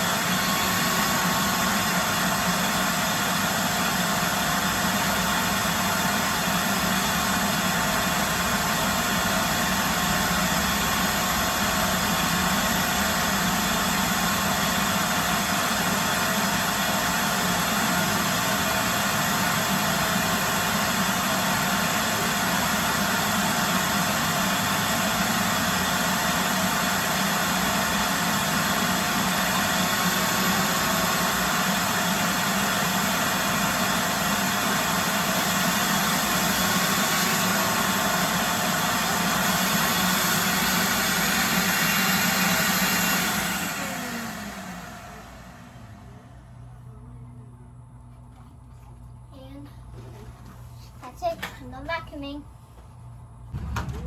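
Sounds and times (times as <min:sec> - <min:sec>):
shop vacuum running: 0:00.0 - 0:50.8, 0:53.5 - 0:54.0.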